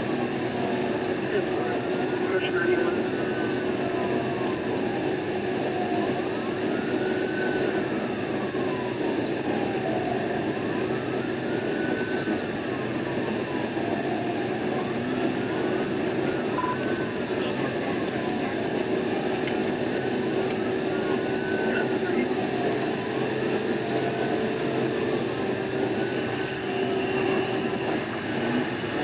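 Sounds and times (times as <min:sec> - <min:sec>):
police siren wailing: 0:00.0 - 0:29.0
road and engine noise: 0:00.0 - 0:29.0.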